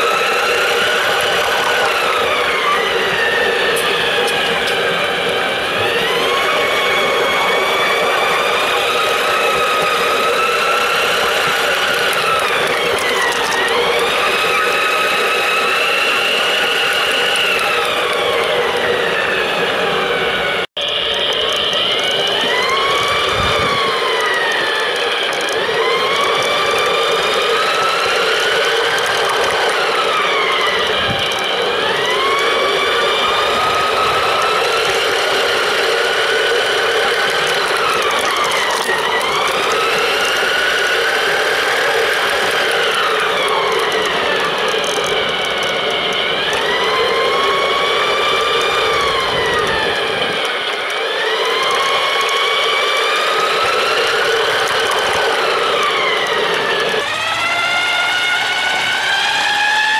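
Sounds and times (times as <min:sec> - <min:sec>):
toy train motor whining: 0:00.0 - 0:59.9.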